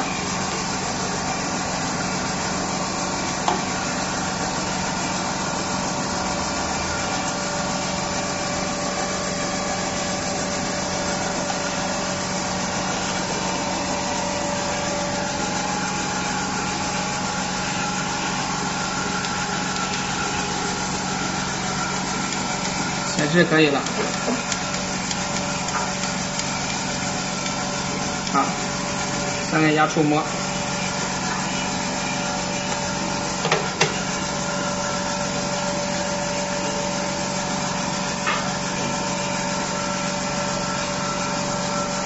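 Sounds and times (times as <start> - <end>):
machine hum with hiss: 0.0 - 42.0.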